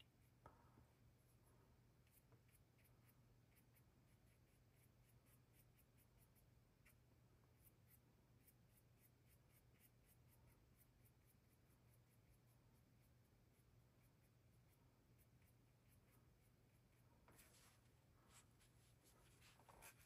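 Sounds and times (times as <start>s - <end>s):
paintbrush scratching on panel: 2.0s - 20.0s.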